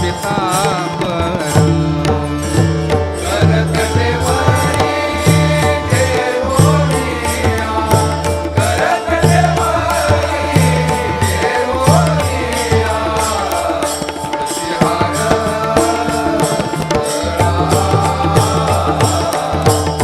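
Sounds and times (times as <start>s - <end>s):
drums beating: 0.0s - 20.0s.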